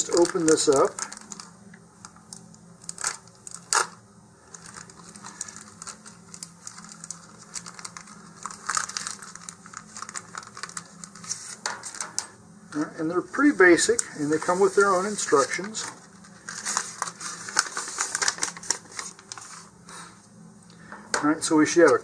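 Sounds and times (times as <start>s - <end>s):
plastic bag crinkling: 0.0s - 12.4s, 13.3s - 19.8s.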